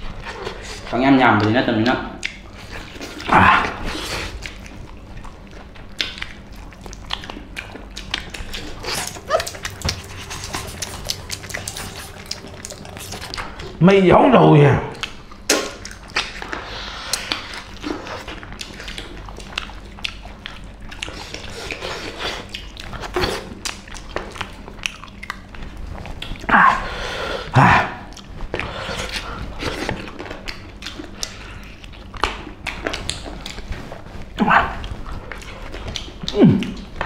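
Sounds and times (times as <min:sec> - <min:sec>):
wet chewing and lip-smacking: 0:00.0 - 0:13.8, 0:14.9 - 0:27.0, 0:27.8 - 0:37.0.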